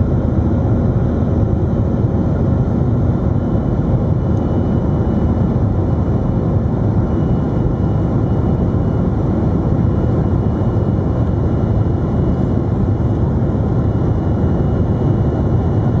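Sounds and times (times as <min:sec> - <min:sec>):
jet engines rumbling at takeoff: 0:00.0 - 0:16.0.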